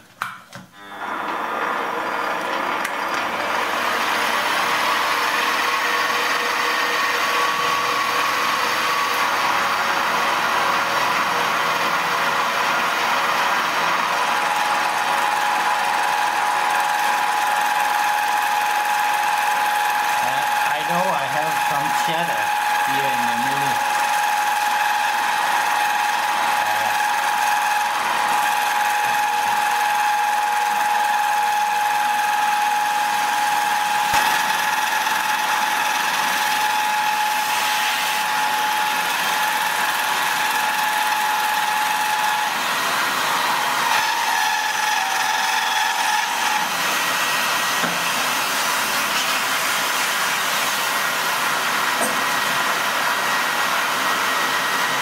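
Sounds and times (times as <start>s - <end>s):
milling machine whine: 0.7s - 55.0s.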